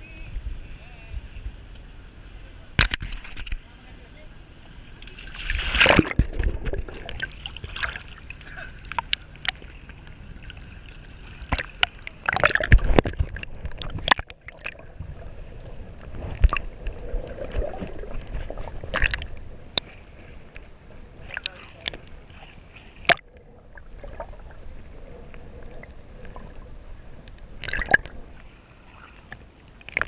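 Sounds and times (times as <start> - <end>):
sea water sloshing and splashing: 4.8 - 30.0.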